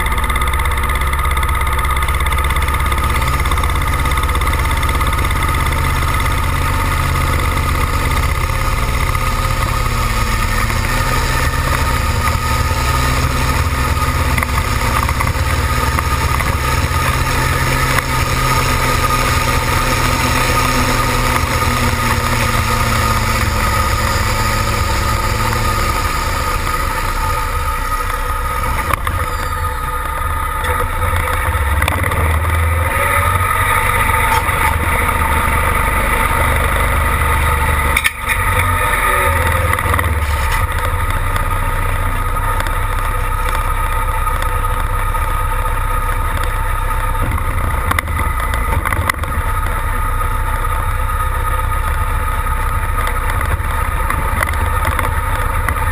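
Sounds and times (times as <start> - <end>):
heavy engine running: 0.0 - 55.9.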